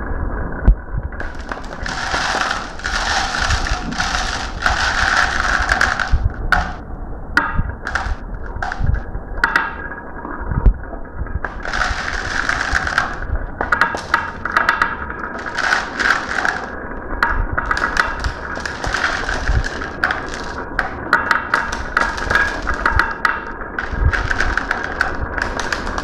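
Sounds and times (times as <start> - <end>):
marble clicks and knocks: 1.1 - 6.8, 7.4 - 9.9, 11.4 - 26.0
marbles rattling down a marble run: 1.2 - 6.8, 7.4 - 9.7, 11.4 - 26.0.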